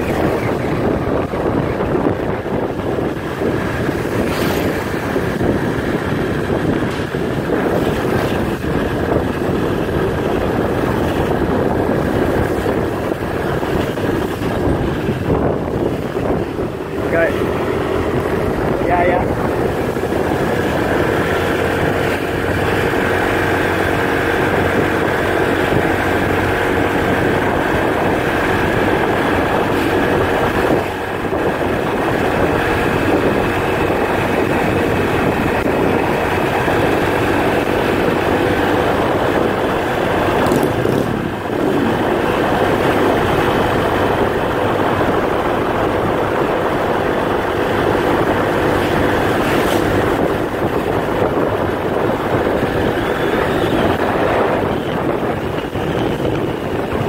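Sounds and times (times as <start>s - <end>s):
motorbike engine running: 0.0s - 57.0s
road and wind noise: 0.0s - 57.0s.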